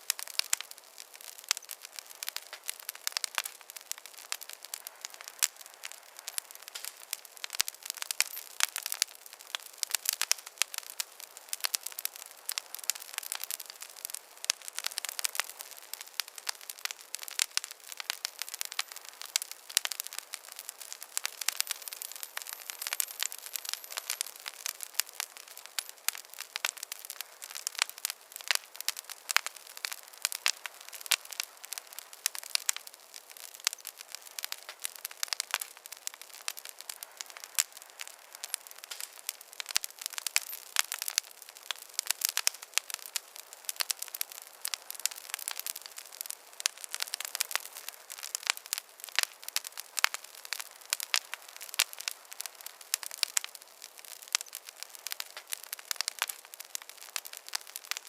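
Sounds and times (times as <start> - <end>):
soft steady hiss: 0.0 - 58.0
wood fire crackling: 0.0 - 58.0.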